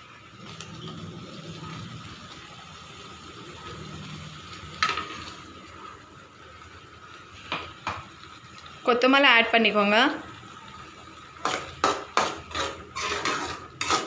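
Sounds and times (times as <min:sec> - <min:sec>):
gravy simmering with bubbling sizzle: 0:00.0 - 0:14.0.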